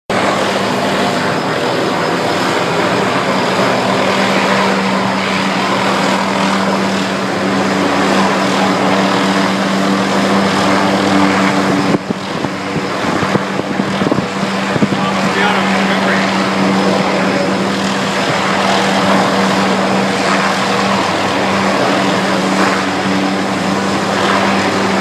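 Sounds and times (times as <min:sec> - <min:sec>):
helicopter engine and rotors: 0:00.1 - 0:25.0.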